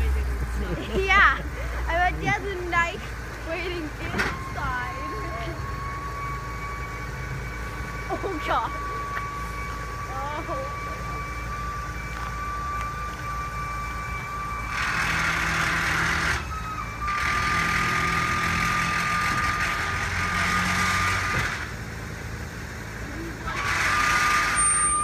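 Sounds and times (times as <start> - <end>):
engine idling: 0.0 - 25.0
hydraulic lift whine: 3.4 - 22.2, 22.9 - 25.0.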